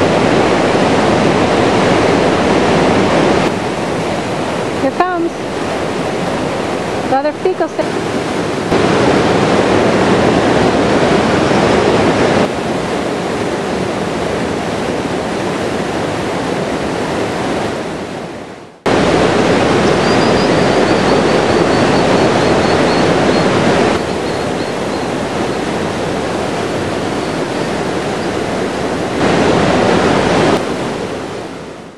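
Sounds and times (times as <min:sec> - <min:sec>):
fast-flowing river rushing: 0:00.0 - 0:31.9.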